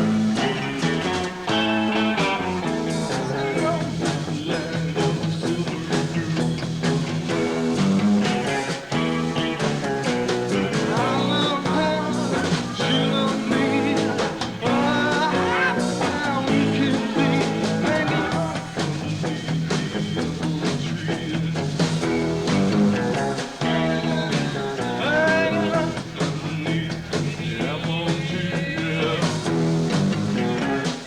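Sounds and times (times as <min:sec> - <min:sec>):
drum beat: 0:00.0 - 0:31.0
live rock band playing: 0:00.0 - 0:31.0.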